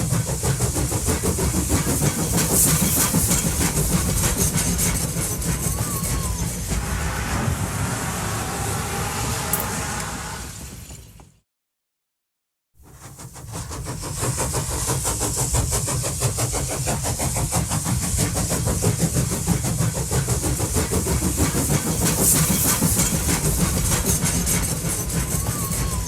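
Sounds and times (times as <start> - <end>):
train running with pulsing beat: 0.0 - 10.1, 12.8 - 26.0.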